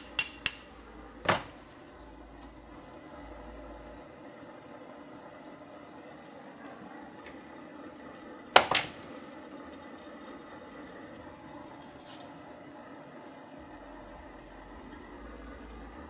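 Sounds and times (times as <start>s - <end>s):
gas torch flame hissing: 0.0s - 16.0s.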